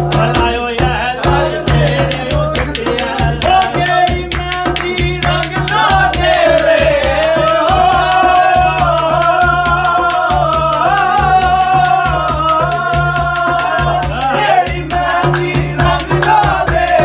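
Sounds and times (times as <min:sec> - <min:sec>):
fast hand-drum rhythm: 0:00.0 - 0:17.0
person singing folk melody: 0:00.0 - 0:17.0.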